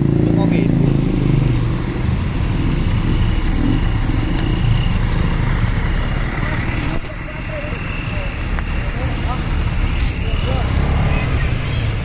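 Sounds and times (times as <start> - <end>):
motorcycle engine running: 0.0 - 11.4
road and traffic noise: 0.0 - 12.0.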